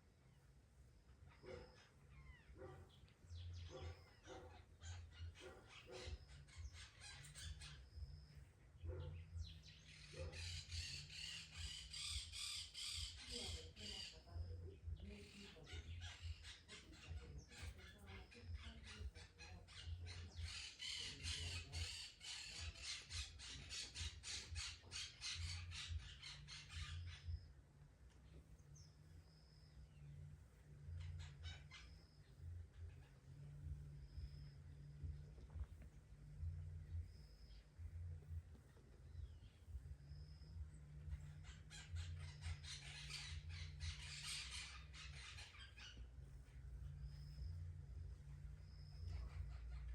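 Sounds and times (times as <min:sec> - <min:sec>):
faint bird chirp: 0:00.0 - 0:49.9
low steady hum: 0:00.0 - 0:49.9.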